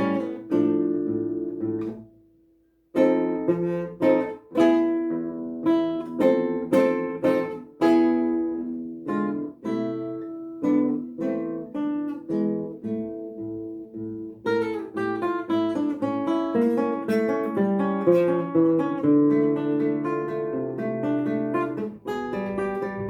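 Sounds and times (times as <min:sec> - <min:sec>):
classical guitar playing: 0:00.0 - 0:23.0.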